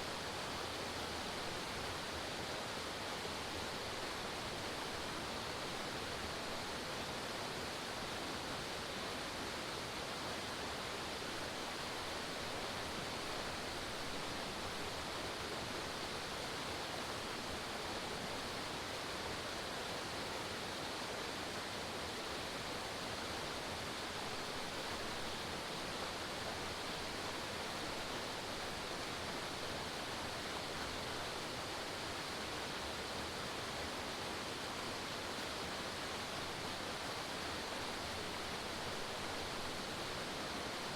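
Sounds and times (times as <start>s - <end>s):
waterfall rushing and splashing: 0.1s - 40.9s.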